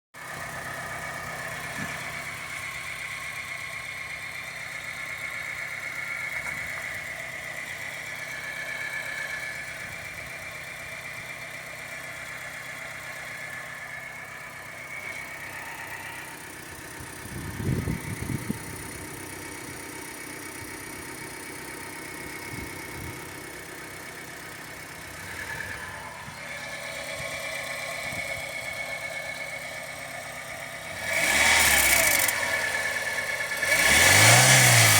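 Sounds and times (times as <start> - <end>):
car engine idling: 0.2 - 34.9
turbocharger whine: 0.2 - 34.9.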